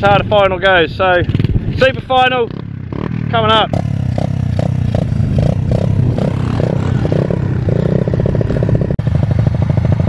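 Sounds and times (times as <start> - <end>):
minibike engines idling and revving: 0.0 - 10.0.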